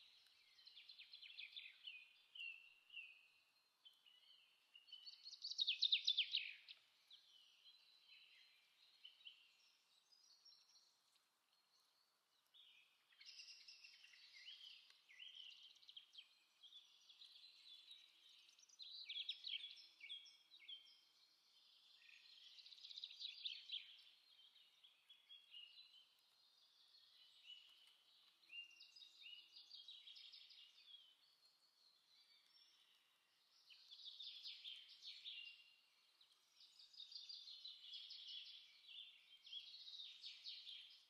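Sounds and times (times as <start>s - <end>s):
birdsong chirps and whistles: 0.0s - 41.0s.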